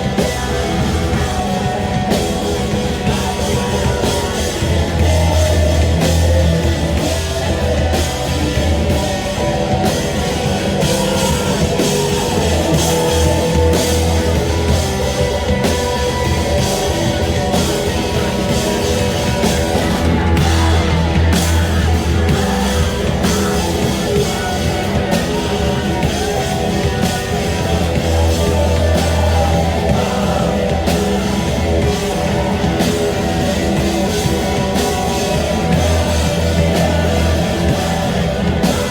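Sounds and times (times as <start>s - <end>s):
distorted guitar: 0.0s - 38.9s
heavy bass line: 0.0s - 38.9s
pounding drum kit: 0.0s - 38.9s
rock band playing: 0.0s - 38.9s.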